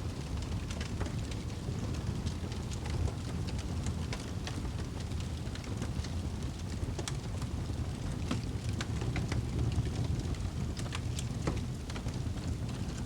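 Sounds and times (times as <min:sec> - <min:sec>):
fireplace fire crackling: 0:00.1 - 0:13.0.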